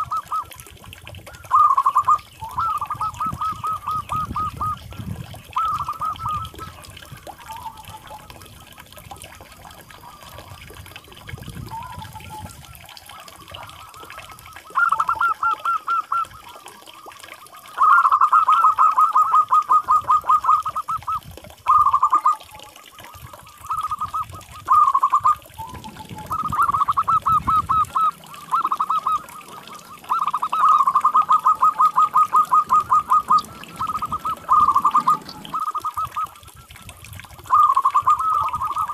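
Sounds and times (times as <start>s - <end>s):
doves cooing trilled notes: 0.0s - 38.9s.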